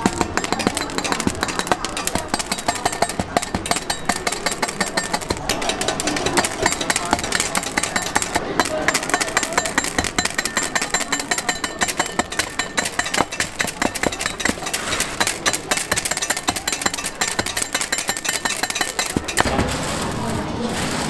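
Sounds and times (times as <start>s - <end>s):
cleaver chopping on metal table: 0.0s - 20.0s
candy pieces clattering: 0.0s - 21.0s.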